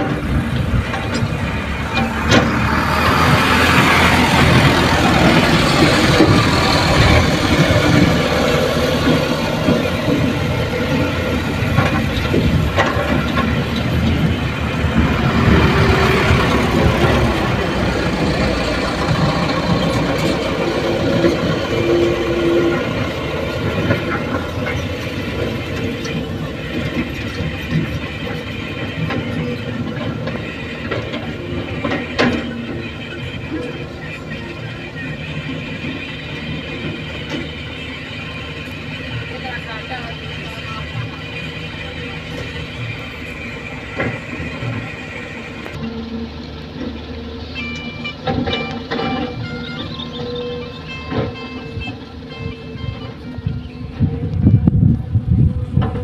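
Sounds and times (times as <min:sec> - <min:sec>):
dump truck engines running: 0:00.0 - 0:56.0
excavator working: 0:00.0 - 0:56.0.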